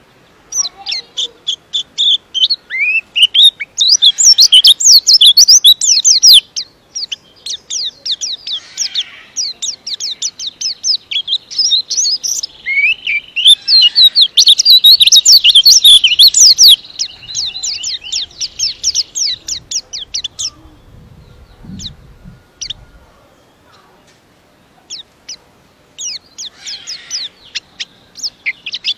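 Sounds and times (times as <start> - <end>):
bird singing high chirps: 0.0 - 24.2, 24.8 - 25.4, 26.0 - 28.9.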